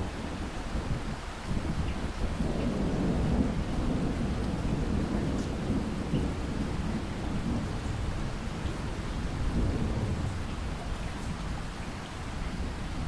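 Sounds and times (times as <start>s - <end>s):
low rumble of thunder: 0.0s - 13.0s
steady rain: 0.0s - 13.0s.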